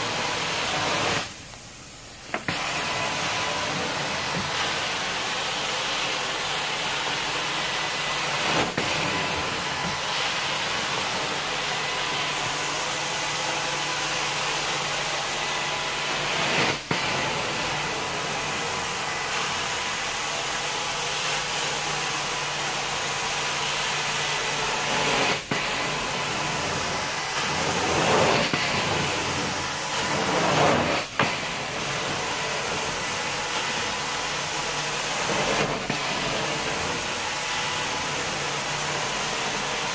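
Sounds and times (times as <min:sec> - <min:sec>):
carpet extraction wand suction hiss: 0:00.0 - 0:39.9.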